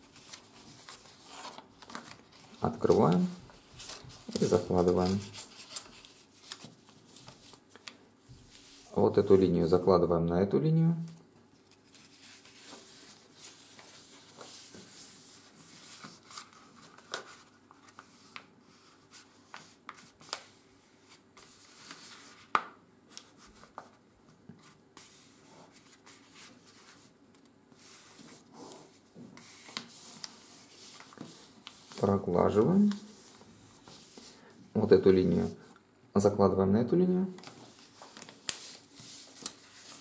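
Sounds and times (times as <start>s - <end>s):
paper rustling and crinkling: 0.0s - 9.0s, 11.6s - 24.0s, 24.6s - 34.4s, 37.4s - 40.0s.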